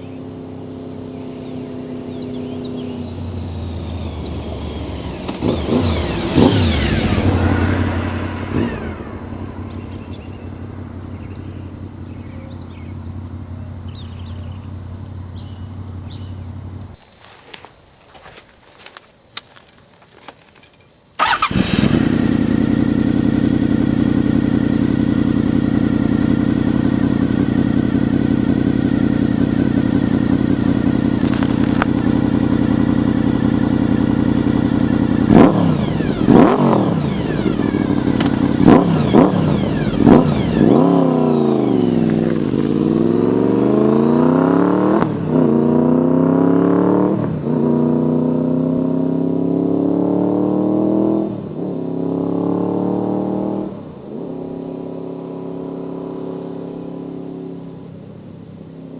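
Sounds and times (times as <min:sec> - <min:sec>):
motorcycle engine idling and revving: 0:00.0 - 0:17.0, 0:21.2 - 0:58.9.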